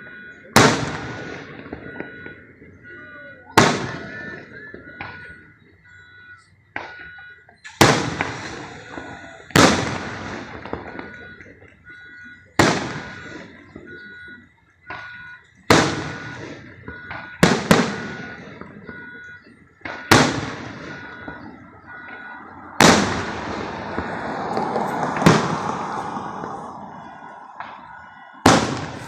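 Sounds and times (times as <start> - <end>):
fireworks booming: 0.0 - 5.8, 6.4 - 29.0
faint beeping tone: 0.0 - 7.8, 8.6 - 9.5, 10.7 - 29.0.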